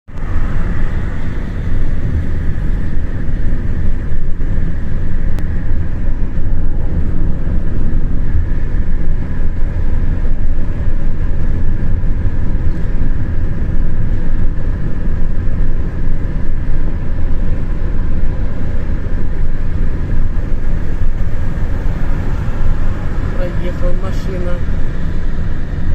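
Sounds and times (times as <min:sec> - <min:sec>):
vehicle road and engine noise: 0:00.0 - 0:25.9.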